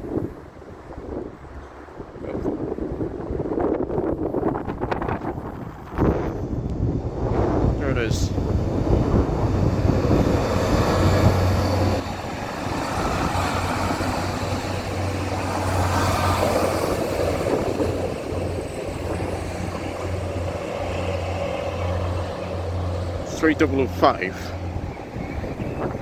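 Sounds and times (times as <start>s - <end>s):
train engine drone: 3.4s - 26.0s.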